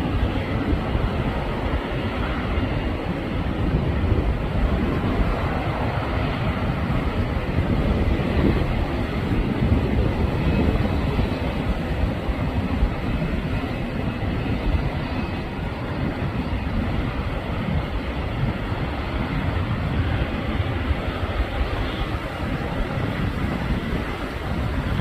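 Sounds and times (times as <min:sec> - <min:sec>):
jet engines deep rumble: 0:00.0 - 0:25.0.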